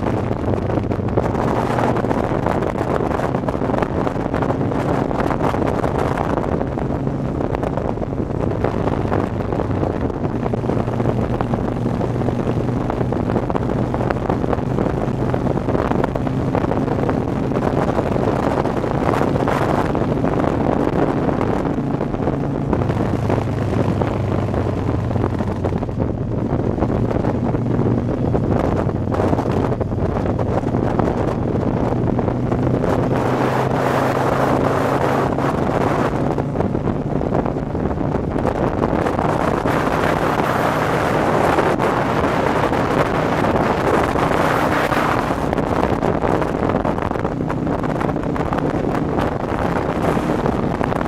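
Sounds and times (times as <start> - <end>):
motorcycle engine running: 0.0 - 51.0
wind buffeting on microphone: 0.0 - 51.0.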